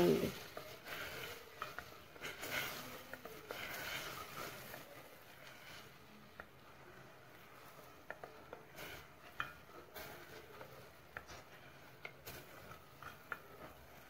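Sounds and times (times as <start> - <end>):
spatula stirring syrup: 0.0 - 14.0.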